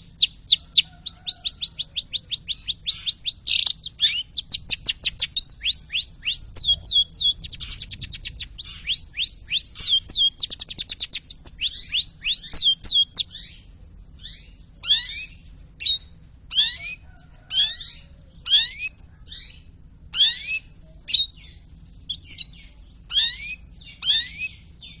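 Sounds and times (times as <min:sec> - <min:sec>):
shrike singing: 0:00.0 - 0:25.0.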